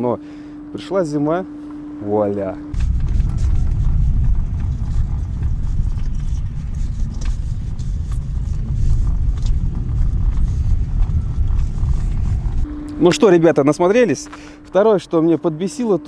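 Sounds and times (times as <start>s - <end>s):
road and engine rumble: 0.6s - 16.0s.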